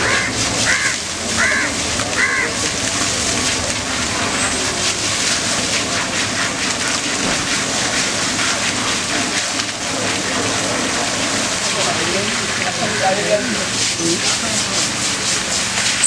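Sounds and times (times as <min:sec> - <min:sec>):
hose water spraying and splashing: 0:00.0 - 0:16.0.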